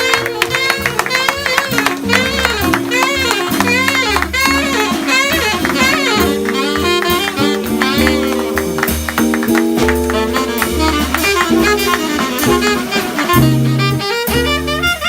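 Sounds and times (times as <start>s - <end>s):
bass line: 0.0s - 15.0s
held band chords: 0.0s - 15.0s
lead instrument bending notes: 0.0s - 15.0s
drums with cymbals: 0.6s - 15.0s.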